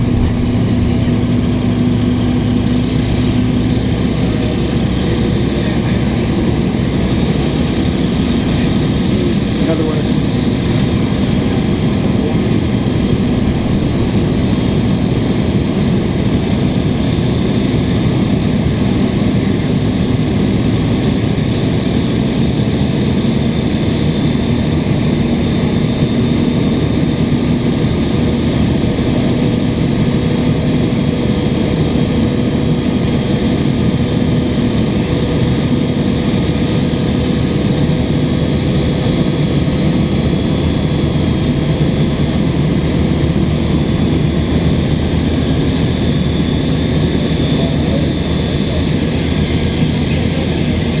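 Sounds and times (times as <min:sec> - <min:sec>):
air conditioning blowing: 0:00.0 - 0:51.0
bus diesel engine running: 0:00.0 - 0:51.0.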